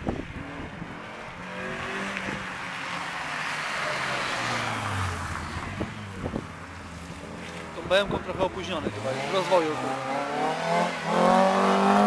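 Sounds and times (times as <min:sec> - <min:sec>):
race car passing at speed: 0:00.0 - 0:07.6, 0:08.8 - 0:12.0.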